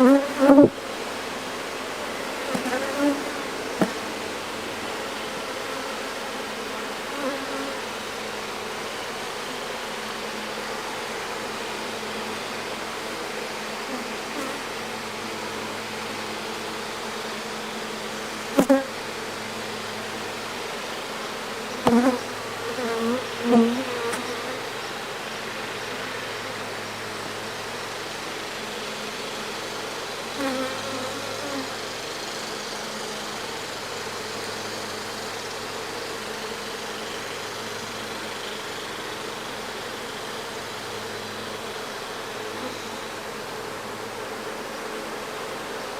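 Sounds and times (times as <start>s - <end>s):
honey bees buzzing: 0.0s - 16.2s, 16.8s - 45.9s.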